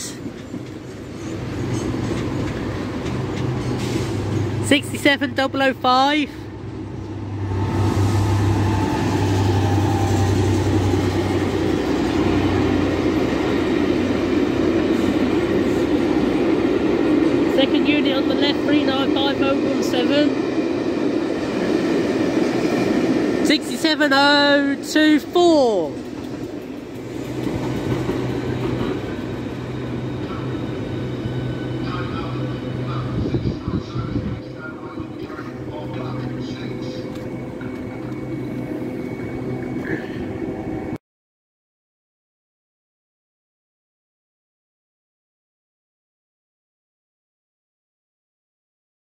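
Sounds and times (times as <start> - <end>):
locomotive engine: 0.0 - 23.8, 24.8 - 41.0
train rumbling by: 0.0 - 41.0.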